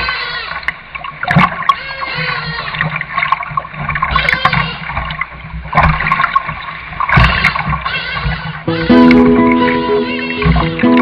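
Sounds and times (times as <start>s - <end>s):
canoe paddle strokes in water: 0.0s - 11.0s
paddle splashes: 0.0s - 11.0s
water gurgling and swishing: 0.0s - 11.0s.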